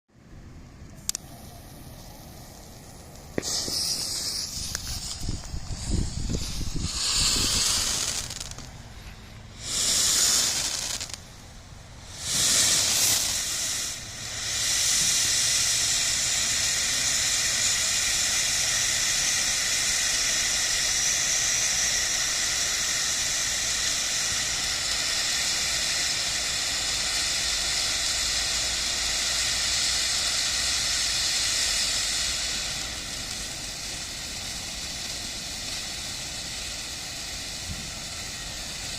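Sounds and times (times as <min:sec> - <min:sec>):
firework fountain hissing: 0:00.1 - 0:38.9.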